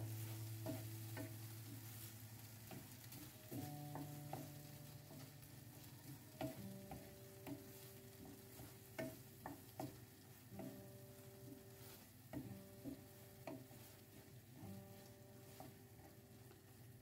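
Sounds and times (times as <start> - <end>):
food sizzling faintly: 0.0 - 17.0
wooden spatula scraping a pan: 0.0 - 17.0.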